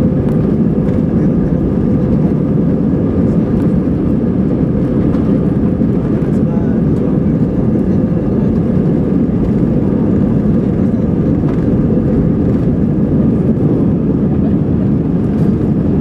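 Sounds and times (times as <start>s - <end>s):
jet engines at takeoff power: 0.0s - 16.0s
wheels rumbling on runway: 0.0s - 16.0s.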